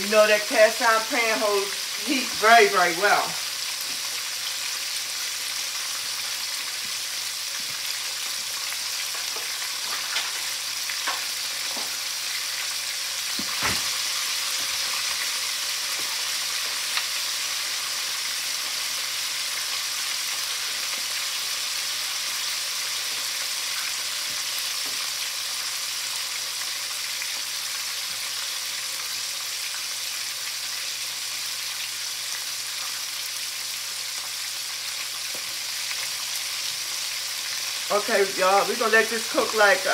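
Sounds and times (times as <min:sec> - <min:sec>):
chicken deep-frying in oil: 0:00.0 - 0:39.9.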